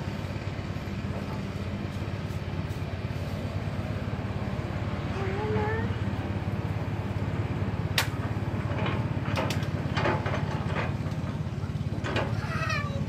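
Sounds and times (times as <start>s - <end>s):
diesel excavator engine running: 0.0s - 13.0s.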